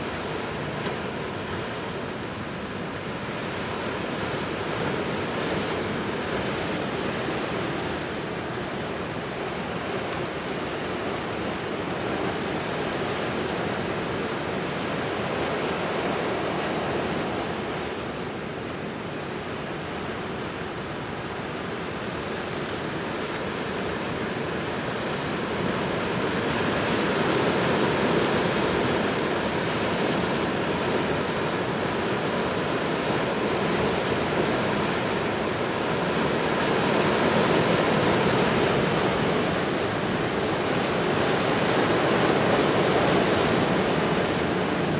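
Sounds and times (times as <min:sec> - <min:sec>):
sea waves washing ashore: 0:00.0 - 0:44.9.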